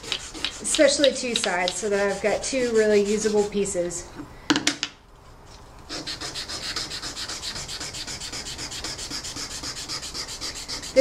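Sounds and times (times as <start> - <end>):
sandpaper rubbing on metal: 0.0 - 3.8, 5.9 - 11.0.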